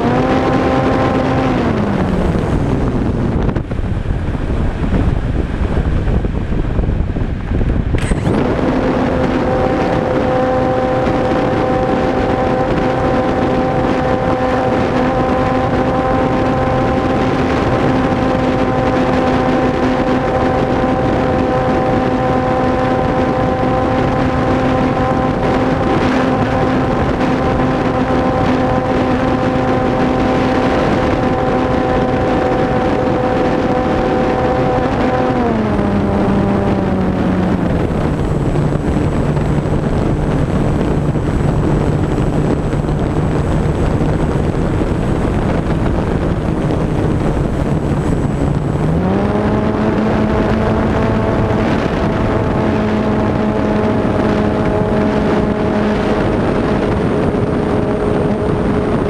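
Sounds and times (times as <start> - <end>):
electric motor whine: 0.0 - 59.0
wind rushing past microphone: 0.0 - 59.0.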